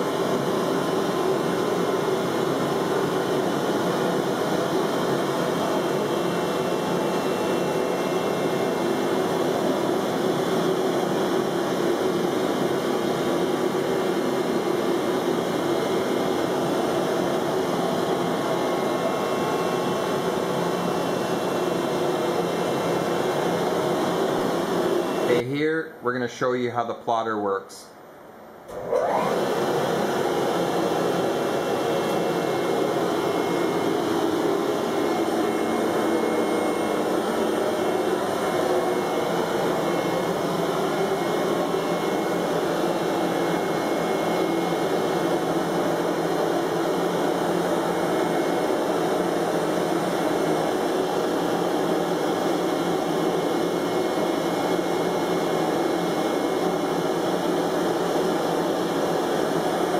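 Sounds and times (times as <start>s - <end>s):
vacuum table rushing noise: 0.0s - 25.4s, 28.7s - 59.9s.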